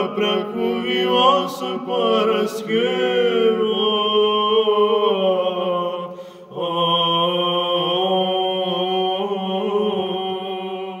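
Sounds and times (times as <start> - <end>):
person chanting: 0.0 - 11.0.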